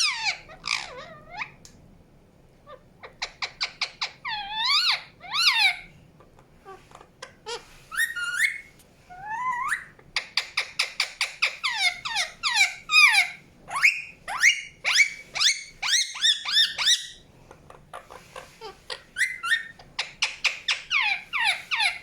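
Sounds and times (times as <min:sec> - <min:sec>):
parakeet chirping: 0:00.0 - 0:01.6, 0:02.6 - 0:05.9, 0:06.6 - 0:17.2, 0:17.9 - 0:22.0.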